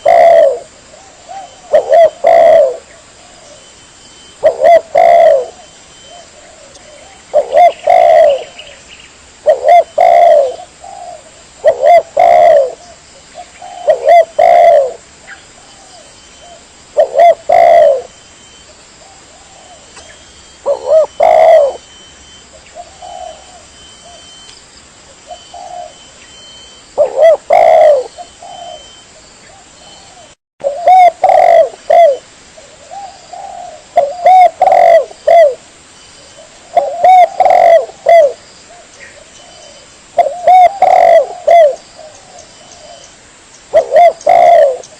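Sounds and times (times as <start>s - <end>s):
dove cooing: 0.0s - 8.8s, 9.4s - 24.5s, 25.2s - 35.6s, 36.3s - 43.1s, 43.7s - 44.9s.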